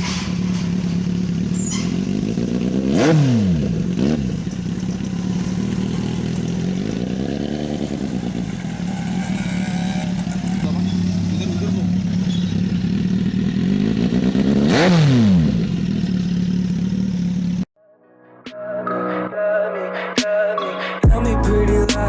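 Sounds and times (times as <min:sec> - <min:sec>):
motorcycle engine idling and revving: 0:00.0 - 0:17.7.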